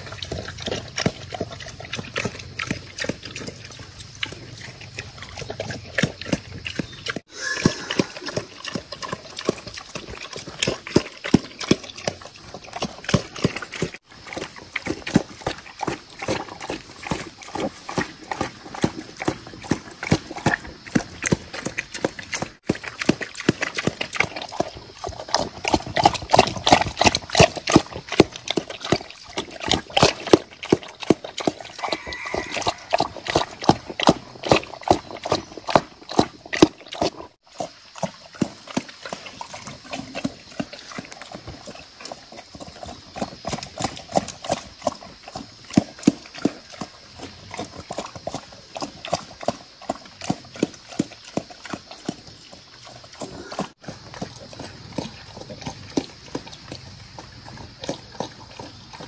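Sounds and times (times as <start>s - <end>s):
boar chomping and slurping: 0.0s - 59.0s.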